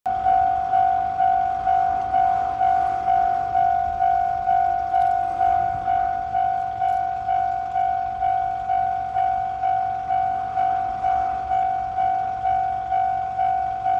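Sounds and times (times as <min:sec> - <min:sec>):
level-crossing alarm bell: 0:00.1 - 0:13.9.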